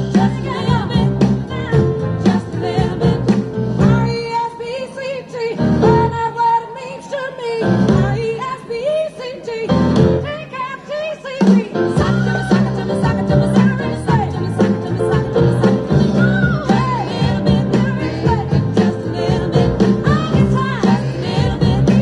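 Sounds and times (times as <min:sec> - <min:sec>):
pop song over sound system: 0:00.0 - 0:22.0.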